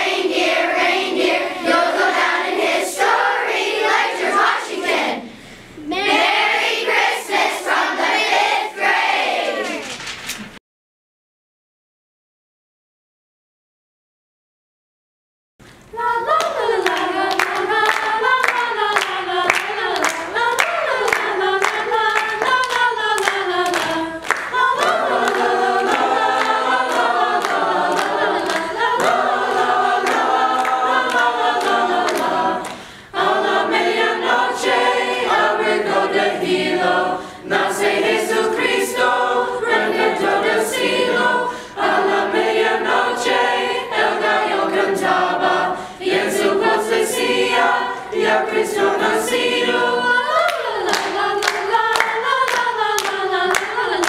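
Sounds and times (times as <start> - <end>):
choir singing a cappella: 0.0 - 9.9, 15.9 - 54.0.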